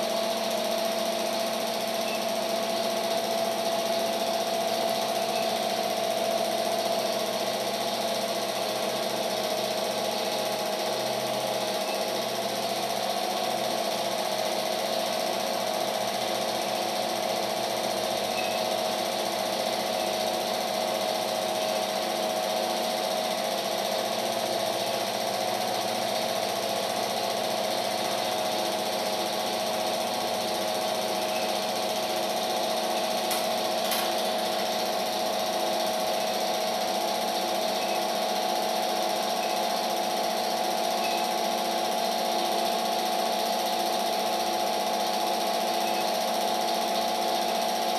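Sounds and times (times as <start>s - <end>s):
film projector whirring: 0.0s - 47.9s.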